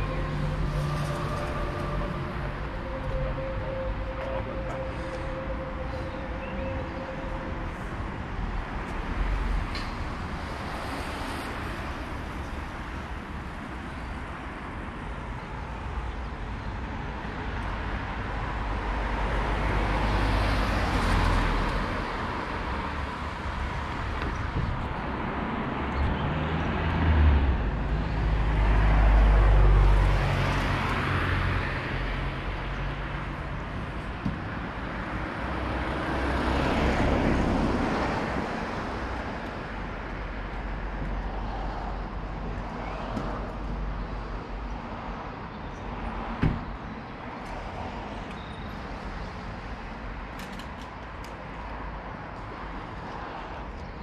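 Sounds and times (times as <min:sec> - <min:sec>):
passing road traffic: 0:00.0 - 0:54.0.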